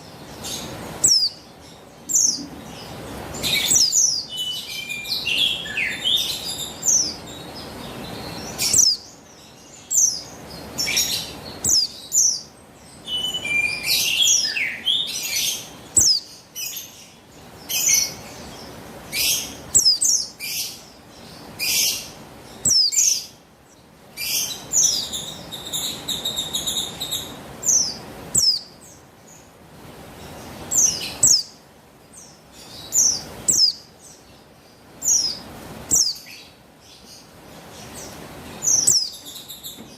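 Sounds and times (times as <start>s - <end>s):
bird chirping and trilling: 0.0s - 29.5s, 30.1s - 39.9s
low background hiss: 0.0s - 39.9s.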